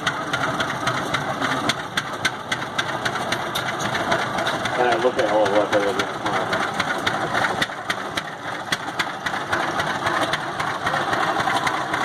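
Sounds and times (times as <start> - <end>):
tractor engine exhaust pops: 0.0 - 12.0.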